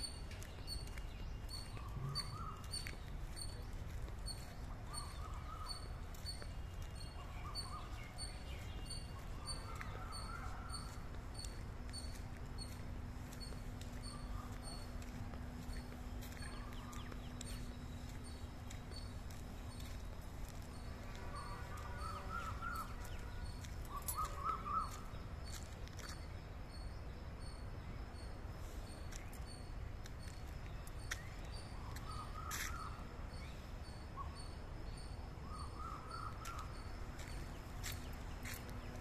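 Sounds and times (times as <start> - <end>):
low outdoor background noise: 0.0 - 39.0
small birds chirping: 0.0 - 39.0.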